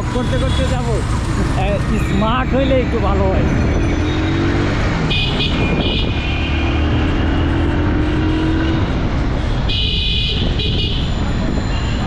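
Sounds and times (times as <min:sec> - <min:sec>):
motorcycle engine: 0:00.0 - 0:12.0
road and wind noise: 0:00.0 - 0:12.0.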